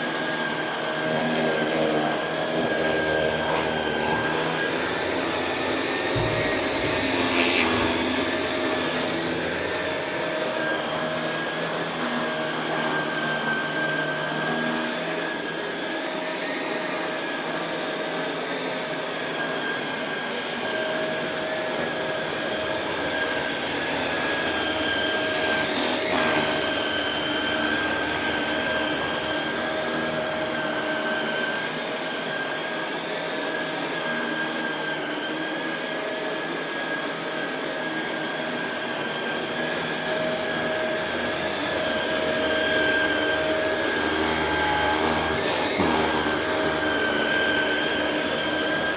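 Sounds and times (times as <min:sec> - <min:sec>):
vacuum cleaner running over carpet: 0:00.0 - 0:48.9.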